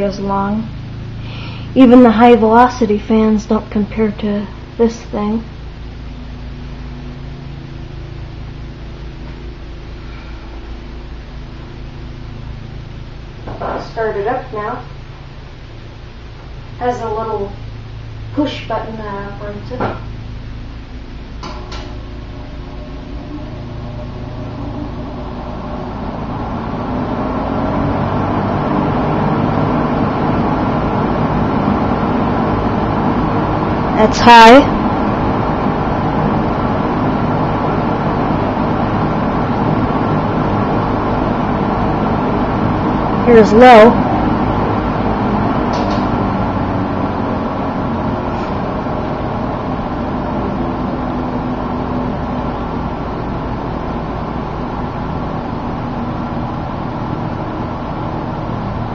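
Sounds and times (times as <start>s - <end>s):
box fan running: 0.0s - 58.9s.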